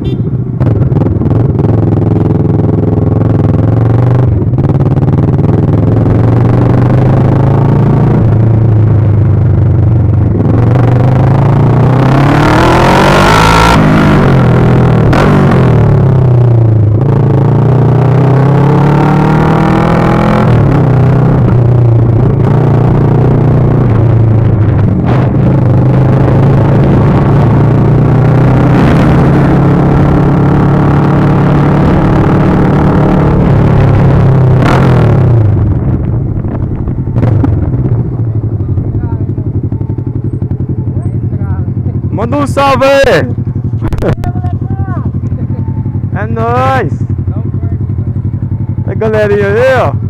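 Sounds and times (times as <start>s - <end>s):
loud motorcycle engine revving: 0.4s - 50.0s.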